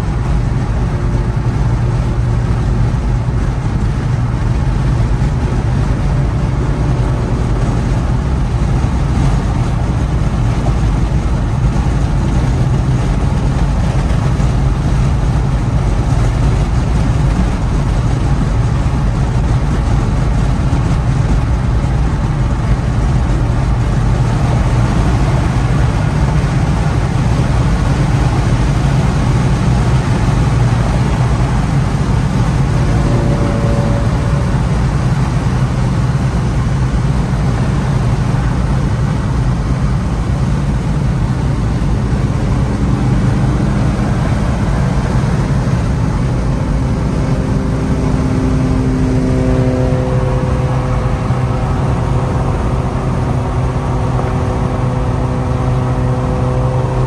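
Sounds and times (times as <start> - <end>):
car engine drone: 0.0 - 57.0
tyre and road noise: 0.0 - 57.0.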